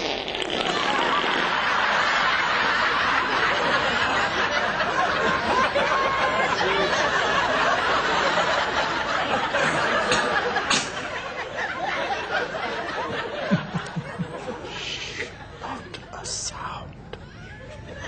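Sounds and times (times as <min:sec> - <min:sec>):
crowd chattering and laughing: 0:00.5 - 0:18.0.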